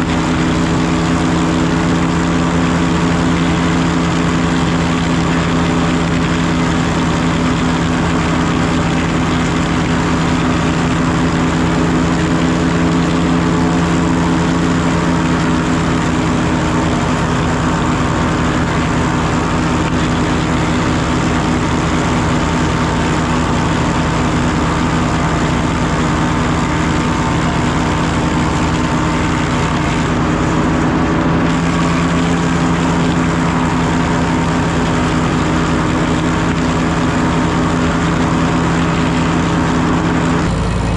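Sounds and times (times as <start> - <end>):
tractor engine running: 0.0 - 40.9
wood planer running: 0.0 - 40.9.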